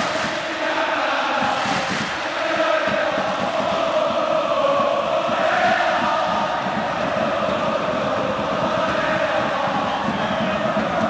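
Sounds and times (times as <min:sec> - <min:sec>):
crowd chanting: 0:00.0 - 0:11.0.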